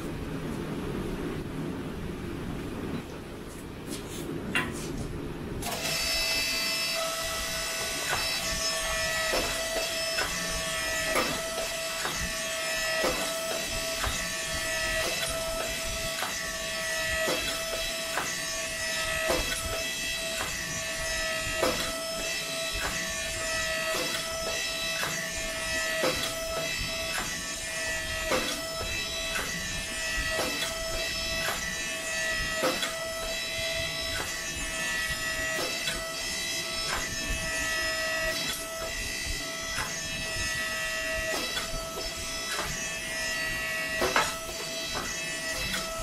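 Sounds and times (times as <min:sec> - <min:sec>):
hydraulic pump whine: 0:05.6 - 0:46.0.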